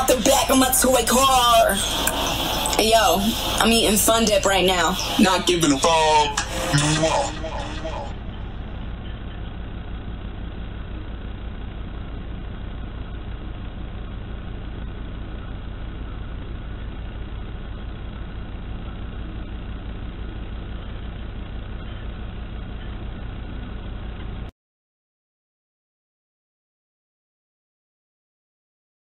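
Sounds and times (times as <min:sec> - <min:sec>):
rc car low buzzing drone: 0:00.0 - 0:24.5.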